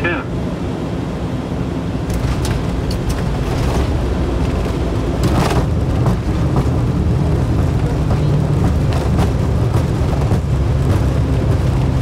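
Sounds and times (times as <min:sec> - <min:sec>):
wheels and engines rumbling: 0:00.0 - 0:12.0.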